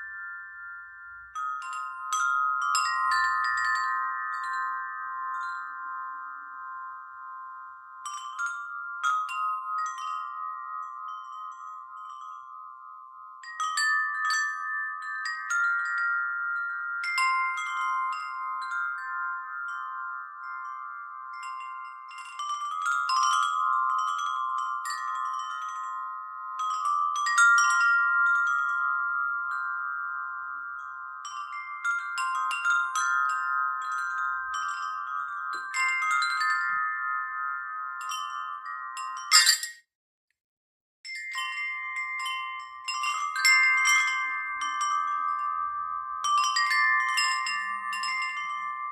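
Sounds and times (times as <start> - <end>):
metal wind chimes ringing: 0.0 - 39.9, 41.1 - 48.9.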